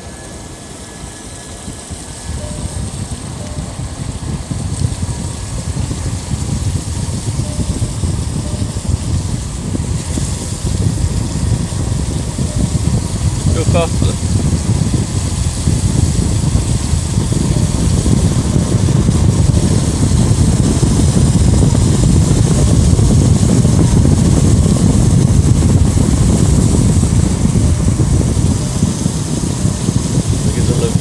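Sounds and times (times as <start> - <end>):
diesel locomotive rumbling: 0.0 - 31.0.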